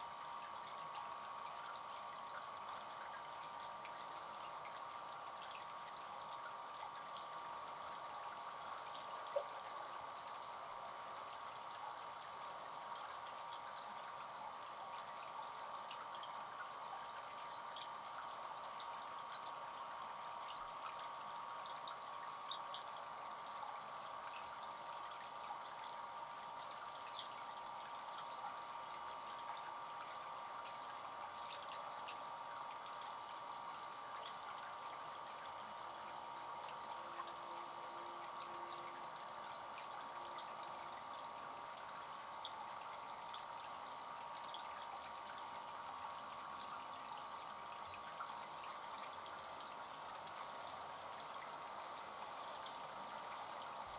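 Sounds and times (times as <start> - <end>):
water trickling from fountain: 0.0 - 53.9.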